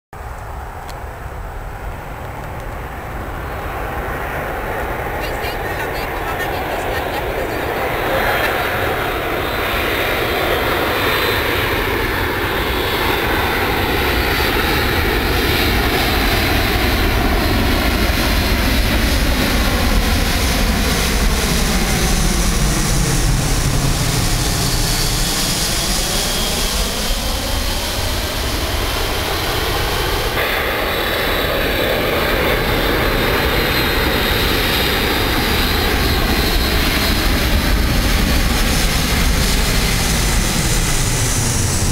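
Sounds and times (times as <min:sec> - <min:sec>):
jet aircraft flying low overhead: 0:00.2 - 0:41.9.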